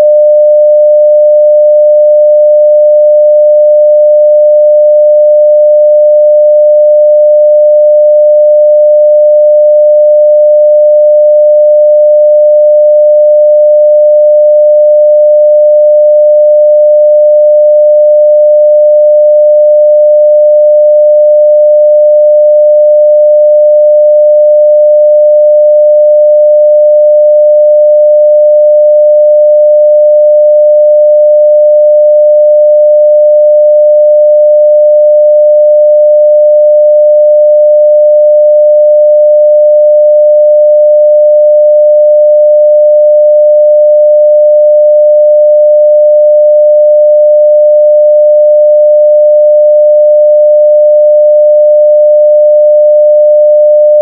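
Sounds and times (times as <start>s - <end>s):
sine-wave test tone: 0.0s - 54.0s.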